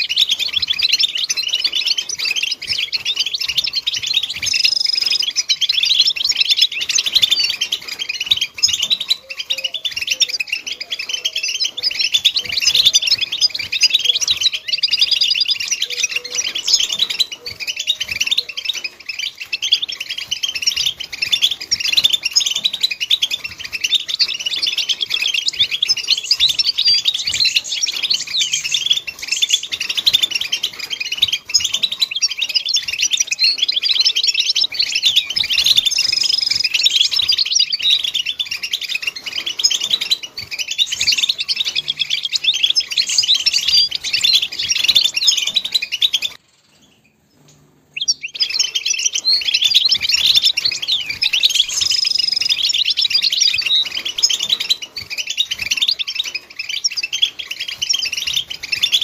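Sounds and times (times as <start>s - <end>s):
goldfinch twittering song: 0.0s - 59.0s.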